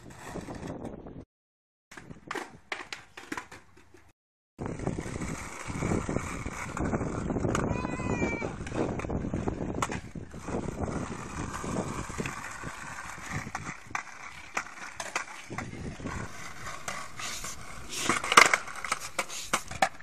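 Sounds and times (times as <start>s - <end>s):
skateboard wheels rolling on pavement: 0.0s - 1.2s, 1.9s - 20.0s
skateboard clattering: 1.9s - 4.1s, 4.7s - 20.0s.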